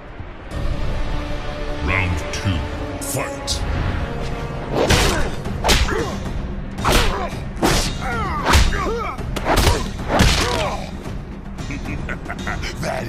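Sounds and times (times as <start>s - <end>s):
film score: 0.0s - 13.0s.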